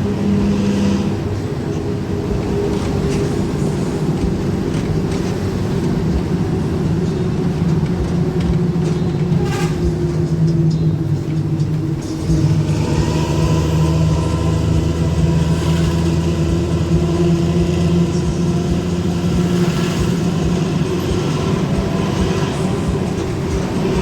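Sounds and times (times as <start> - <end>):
bus engine deep growling drone: 0.0 - 24.0.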